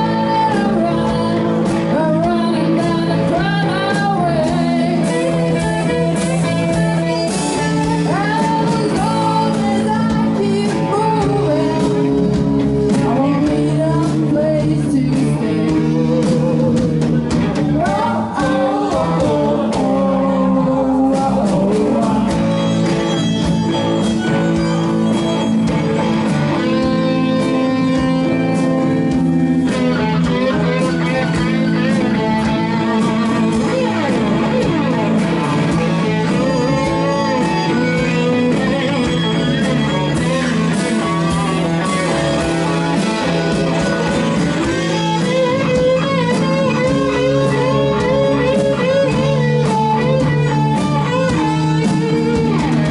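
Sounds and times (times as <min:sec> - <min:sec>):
drums: 0:00.0 - 0:52.9
electric guitars: 0:00.0 - 0:52.9.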